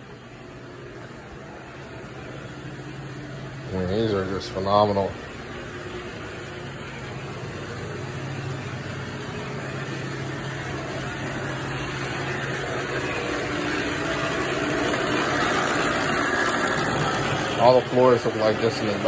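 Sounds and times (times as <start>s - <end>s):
floor-cleaning machine motor humming: 0.0s - 19.0s.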